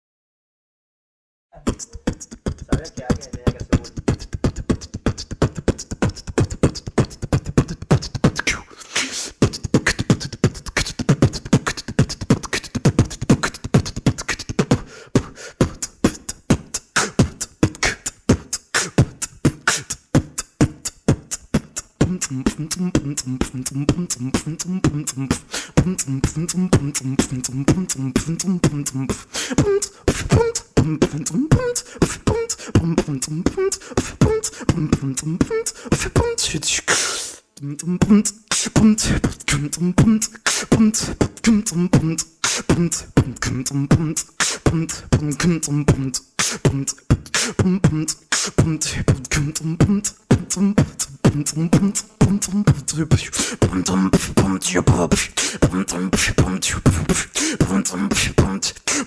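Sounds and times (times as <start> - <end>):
beatboxing: 1.6 - 59.0.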